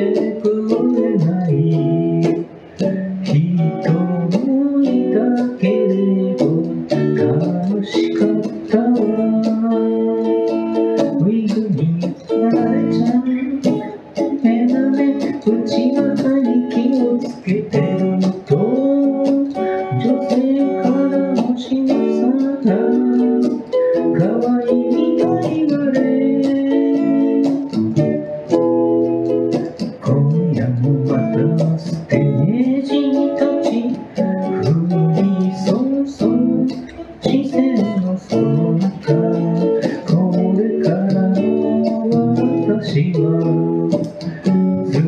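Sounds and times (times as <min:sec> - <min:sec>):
electric guitar playing: 0:00.0 - 0:45.0
person singing: 0:00.0 - 0:45.0.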